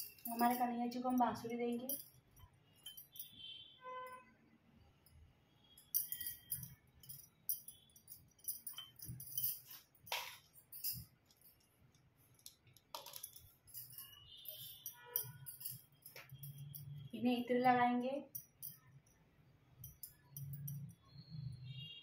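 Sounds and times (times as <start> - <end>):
bangles clinking and jingling: 0.0 - 4.3, 4.9 - 22.0.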